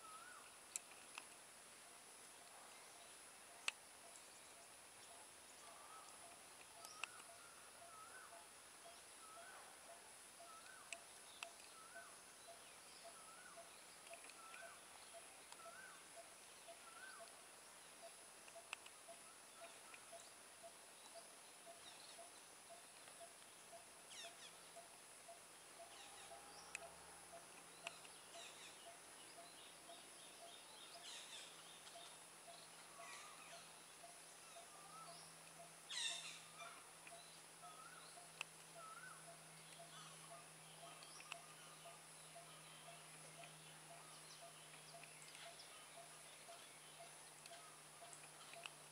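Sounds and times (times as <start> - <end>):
bird chirps: 0.0 - 0.6, 2.7 - 48.9.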